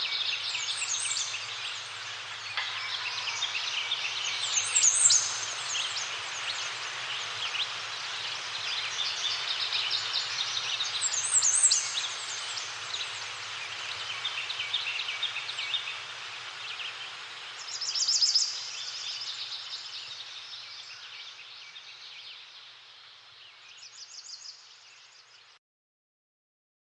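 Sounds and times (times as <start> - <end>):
birds chirping and trilling: 0.0 - 22.7
steady hiss: 0.0 - 25.6.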